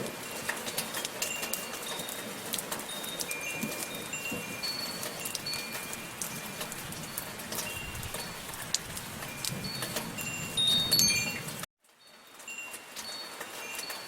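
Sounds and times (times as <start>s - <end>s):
light rain: 0.0s - 14.0s
wind chimes ringing: 0.0s - 14.0s.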